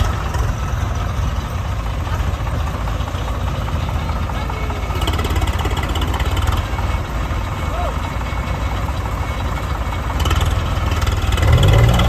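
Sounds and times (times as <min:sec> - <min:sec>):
diesel machinery engine running: 0:00.0 - 0:12.0.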